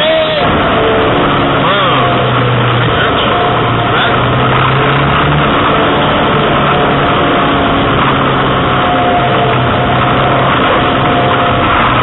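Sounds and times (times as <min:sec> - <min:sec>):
car engine under load: 0:00.0 - 0:12.0.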